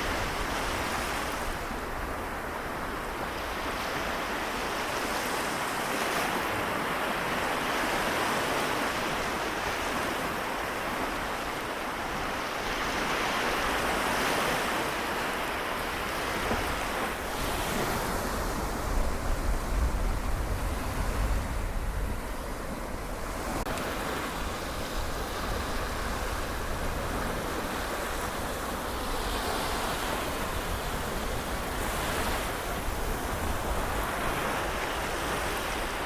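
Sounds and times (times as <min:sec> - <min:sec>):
small waves washing on shore: 0:00.0 - 0:36.0
wind rumble on microphone: 0:00.0 - 0:36.0.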